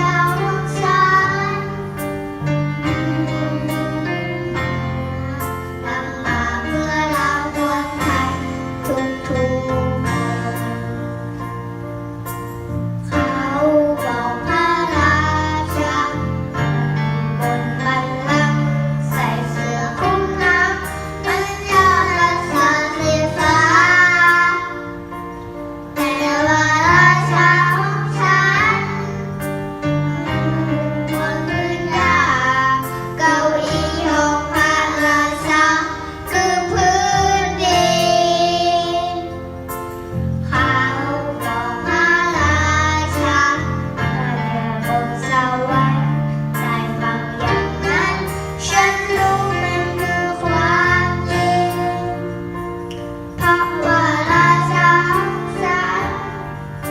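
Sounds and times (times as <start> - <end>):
girl singing: 0.0 - 2.0, 2.8 - 11.1, 13.0 - 25.1, 25.9 - 29.4, 30.0 - 39.4, 40.4 - 52.5, 53.4 - 56.9.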